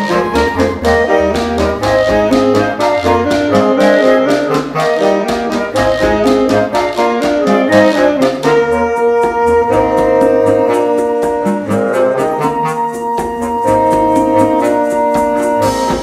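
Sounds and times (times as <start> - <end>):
congas and timbales: 0.0 - 16.0
woodwind ensemble playing: 0.0 - 16.0.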